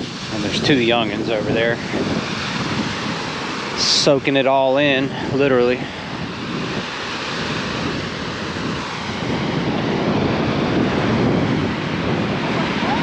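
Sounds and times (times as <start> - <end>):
gentle ocean surf: 0.0 - 13.0.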